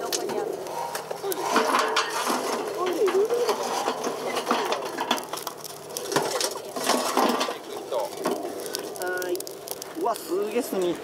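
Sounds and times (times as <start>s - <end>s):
charcoal clattering on metal grate: 0.0s - 11.0s.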